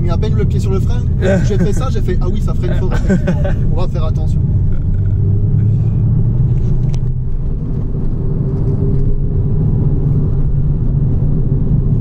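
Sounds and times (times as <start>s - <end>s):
car engine running: 0.0s - 12.0s
road and tyre rumble: 0.0s - 12.0s.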